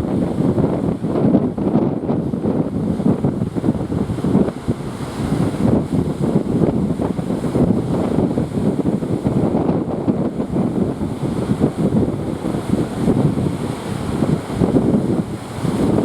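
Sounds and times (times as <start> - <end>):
ocean waves: 0.0 - 16.0
wind buffeting microphone: 0.0 - 16.0.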